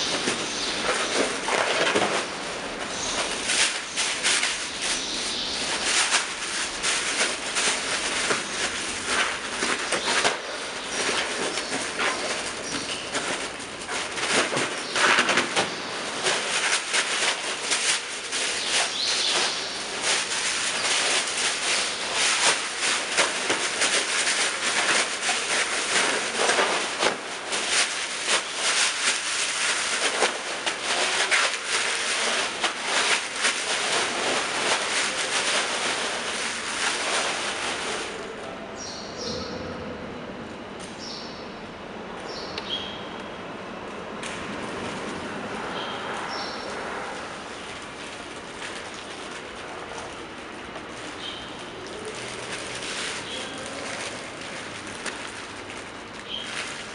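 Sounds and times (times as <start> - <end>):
plastic bags crinkling: 0.0 - 38.5, 44.2 - 56.9.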